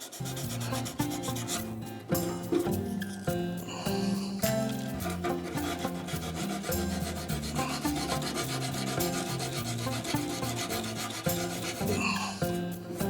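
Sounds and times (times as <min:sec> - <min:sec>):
sandpaper rubbing on painted metal: 0:00.0 - 0:02.7, 0:04.2 - 0:12.5.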